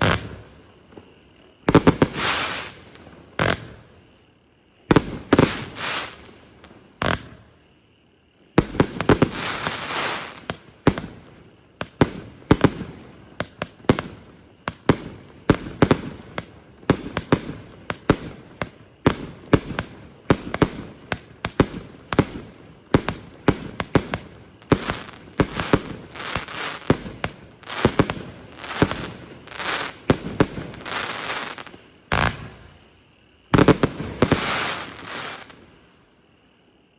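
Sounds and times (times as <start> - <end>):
fireworks shots bursting: 0.0 - 0.6, 1.6 - 4.1, 4.9 - 6.3, 8.6 - 35.6
fireworks crackling: 0.0 - 4.1, 4.9 - 7.5, 8.6 - 35.8.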